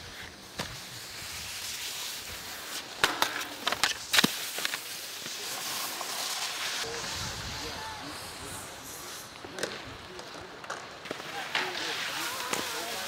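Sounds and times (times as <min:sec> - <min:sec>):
skis clacking on a rail: 0:00.0 - 0:07.1, 0:08.1 - 0:13.0
skis hissing over snow: 0:00.0 - 0:10.4, 0:11.0 - 0:13.0.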